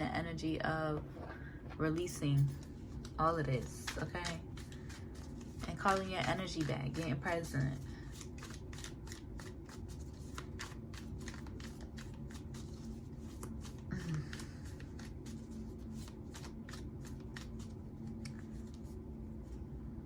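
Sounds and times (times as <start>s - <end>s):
faint low hum: 0.0s - 20.0s
cards being shuffled: 2.6s - 19.6s.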